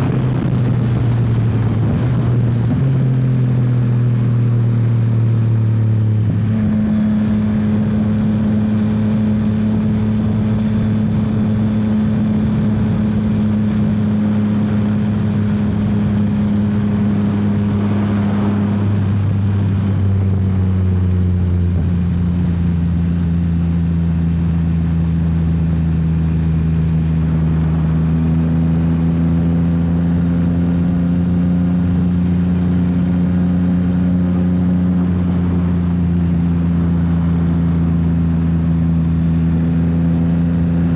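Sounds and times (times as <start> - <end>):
motorcycle engine pulling hard: 0.0 - 40.9.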